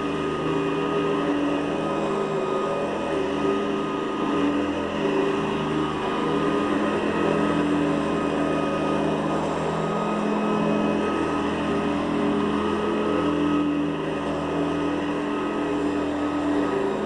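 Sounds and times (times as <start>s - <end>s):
vacuum cleaner on carpet: 0.0s - 17.0s.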